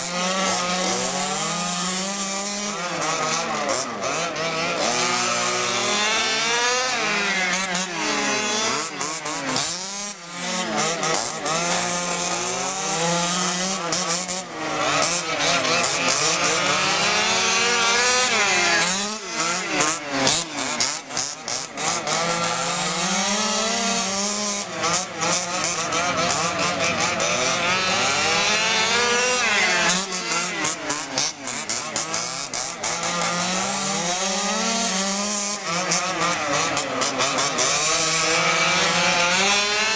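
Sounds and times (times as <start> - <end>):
small two-stroke engines buzzing: 0.0 - 39.9.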